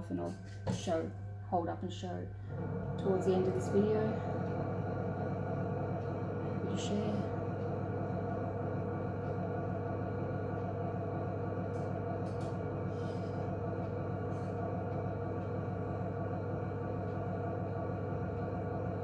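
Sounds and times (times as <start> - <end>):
potter's wheel motor humming: 0.0 - 19.0.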